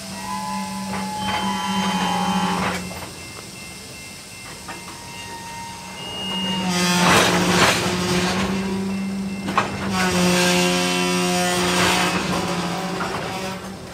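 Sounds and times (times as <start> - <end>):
train wheels and brakes squealing: 0.0 - 13.9.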